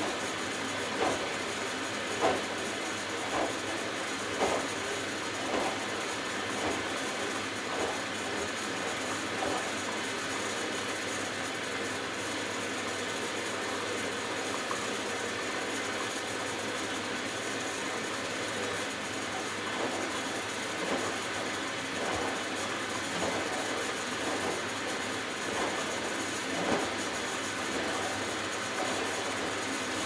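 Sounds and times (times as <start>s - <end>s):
washing machine drum running: 0.0s - 30.0s.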